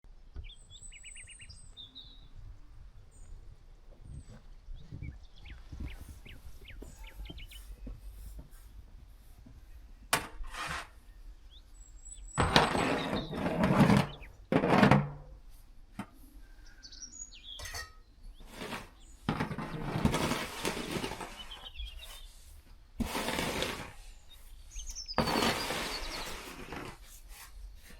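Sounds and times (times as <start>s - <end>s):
small birds chirping: 0.3s - 10.1s, 11.0s - 14.5s, 16.1s - 19.9s, 20.8s - 22.6s, 23.9s - 27.9s.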